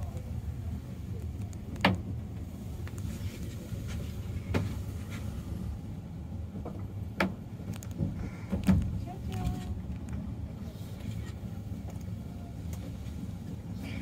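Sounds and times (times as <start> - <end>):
funicular car rumbling: 0.0 - 14.0.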